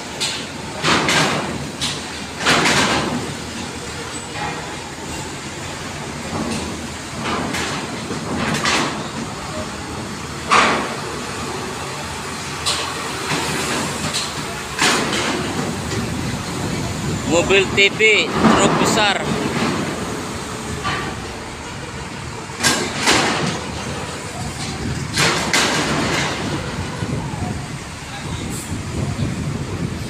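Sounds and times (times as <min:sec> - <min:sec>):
truck wheels clanking on metal ramp: 0:00.0 - 0:30.0.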